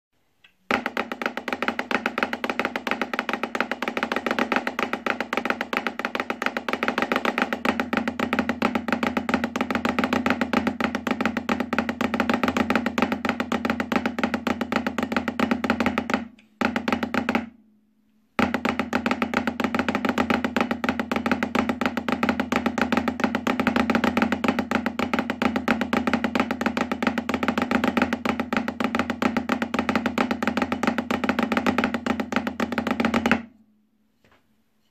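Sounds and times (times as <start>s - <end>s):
snare drum flams: 0.7s - 17.5s, 18.4s - 33.5s.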